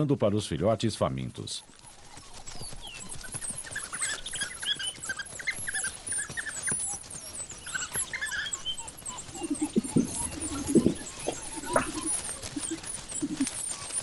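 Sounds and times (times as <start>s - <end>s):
wild dogs chirping: 0.4s - 14.0s
wild dogs squealing: 1.6s - 14.0s.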